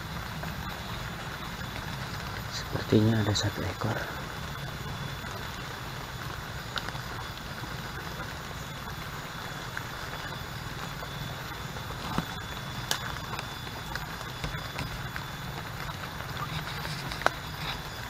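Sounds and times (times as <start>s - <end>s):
faint ticks: 0.0s - 18.0s
outdoor background hiss: 0.0s - 18.0s.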